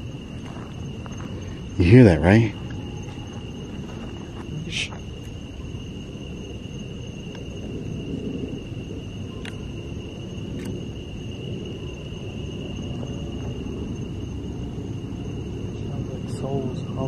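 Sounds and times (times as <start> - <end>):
night insects trilling: 0.0 - 17.0
low rumble: 2.5 - 16.9.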